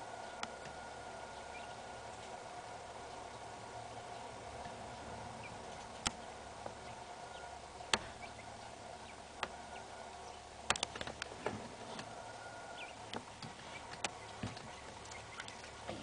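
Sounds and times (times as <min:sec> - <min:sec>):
beaks pecking at sand: 0:00.0 - 0:16.0
chicks peeping faintly: 0:00.0 - 0:16.0.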